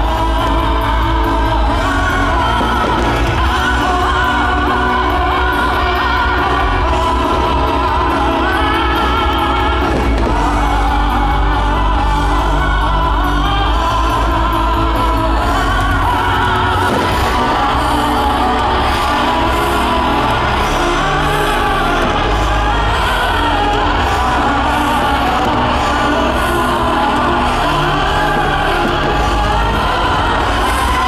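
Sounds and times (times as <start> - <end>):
soundtrack music with singing: 0.0 - 31.0.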